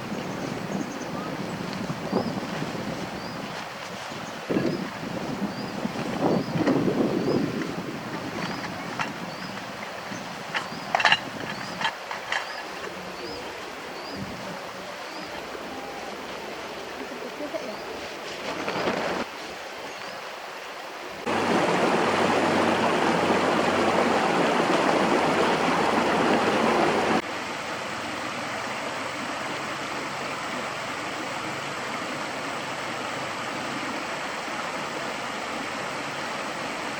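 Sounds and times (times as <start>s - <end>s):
stream water flowing: 0.0s - 36.9s.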